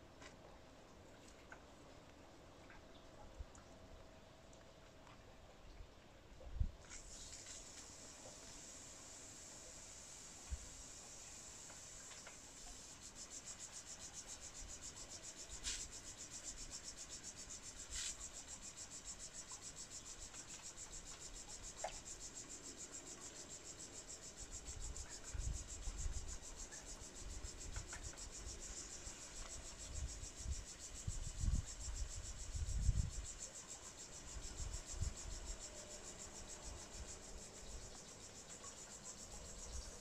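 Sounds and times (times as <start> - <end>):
insects chirring: 6.9 - 40.0.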